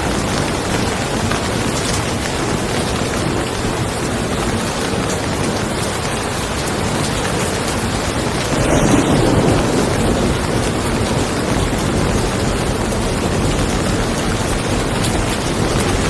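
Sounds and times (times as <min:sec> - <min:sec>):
rain falling on a car: 0:00.0 - 0:16.0
thunder rumble: 0:00.0 - 0:16.0.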